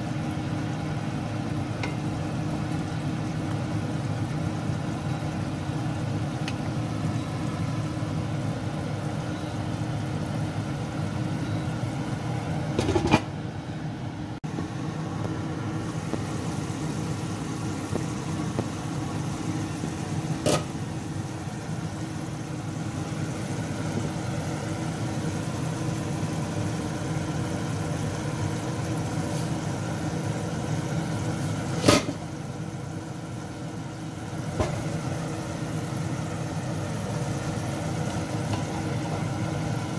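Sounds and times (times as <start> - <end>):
stew simmering: 0.0 - 39.9.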